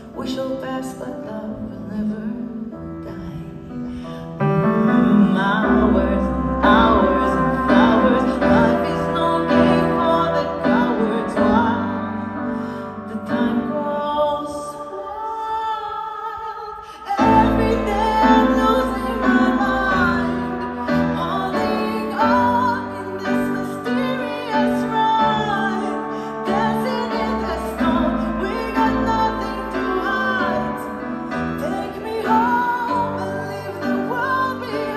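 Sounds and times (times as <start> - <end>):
woman singing: 0.0 - 34.9.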